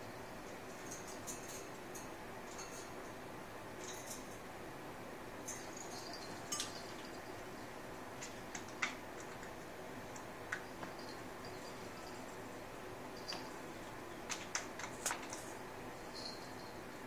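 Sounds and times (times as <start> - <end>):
faint background hum: 0.0 - 17.0.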